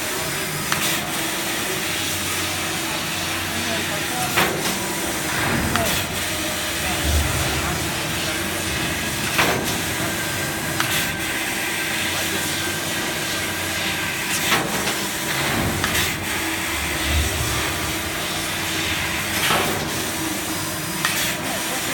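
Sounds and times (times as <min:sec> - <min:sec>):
laser cutter hiss: 0:00.7 - 0:21.9.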